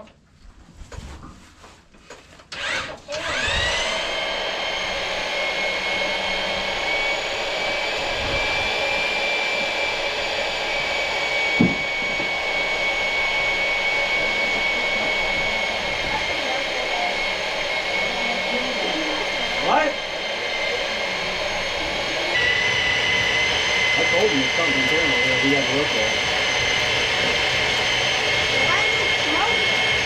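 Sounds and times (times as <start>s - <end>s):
electric motor whining: 2.5s - 30.0s.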